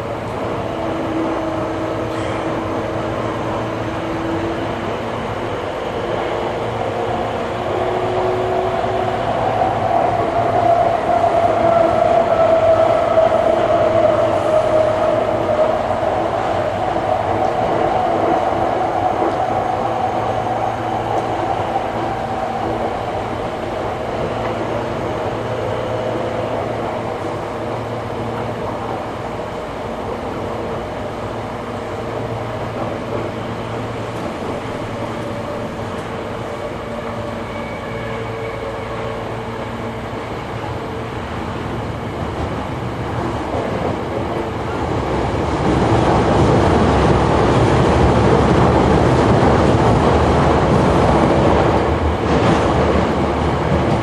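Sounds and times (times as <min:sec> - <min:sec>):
train motor and gear hum: 0:00.0 - 0:54.0
train wheel and rail noise: 0:00.0 - 0:54.0.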